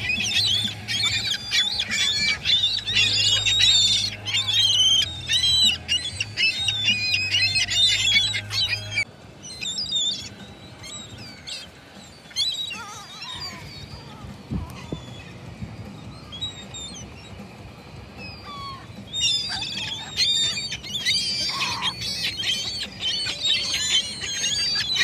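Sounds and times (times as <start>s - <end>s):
gulls squawking: 0.0s - 25.0s.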